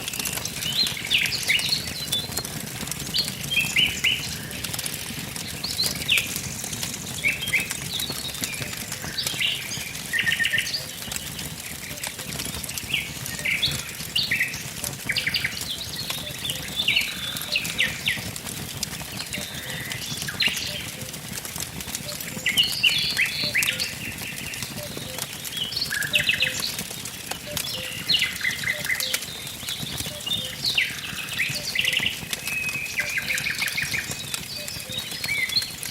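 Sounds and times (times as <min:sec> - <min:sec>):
songbirds chirping: 0:00.0 - 0:35.9
wood fire crackling: 0:00.0 - 0:35.9.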